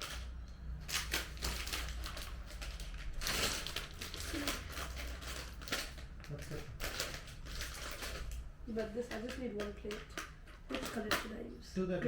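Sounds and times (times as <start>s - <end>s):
plastic bags crinkling and rattling: 0.0s - 11.5s.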